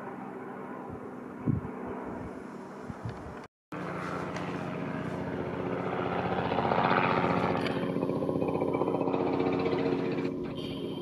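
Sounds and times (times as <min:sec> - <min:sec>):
helicopter engine: 0:00.0 - 0:11.0
helicopter rotor chop: 0:00.0 - 0:11.0.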